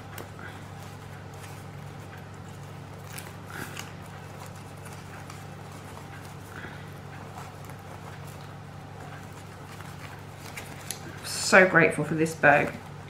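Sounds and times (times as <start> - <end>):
ribbon rustling: 0.0 - 13.0
steady low hum: 0.0 - 13.0.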